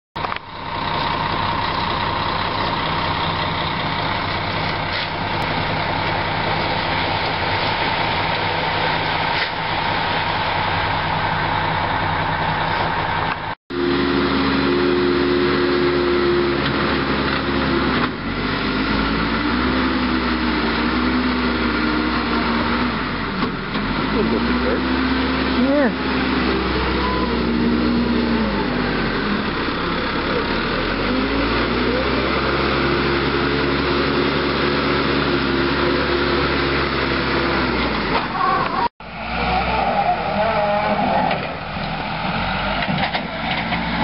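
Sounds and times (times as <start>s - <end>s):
diesel machinery engine drone: 0.2s - 44.0s
engine rising and falling: 2.2s - 44.0s.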